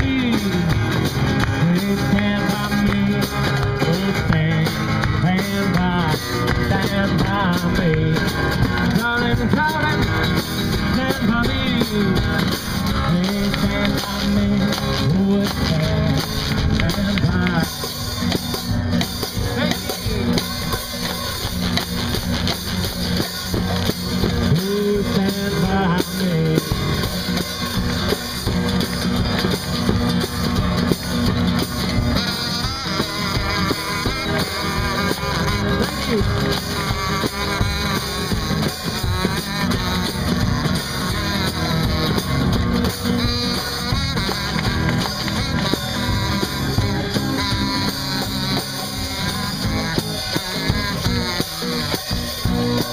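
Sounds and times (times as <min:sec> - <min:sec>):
drum and cymbals beat: 0:00.0 - 0:52.9
strummed acoustic guitar: 0:00.0 - 0:52.9
kazoo playing tune: 0:04.8 - 0:52.9.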